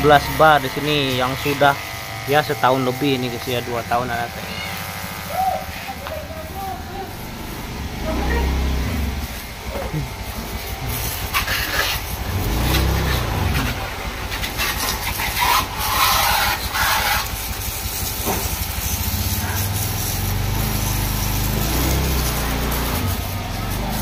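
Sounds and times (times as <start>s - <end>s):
water jet hissing and splattering: 0.0s - 24.0s
water pump humming: 0.0s - 24.0s.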